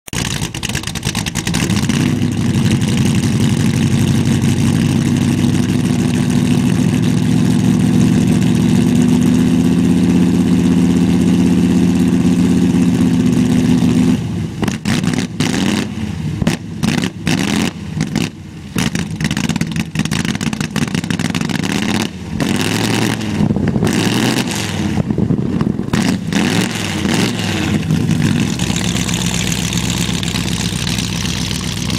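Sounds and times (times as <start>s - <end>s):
engine running and revving: 0.1s - 31.9s.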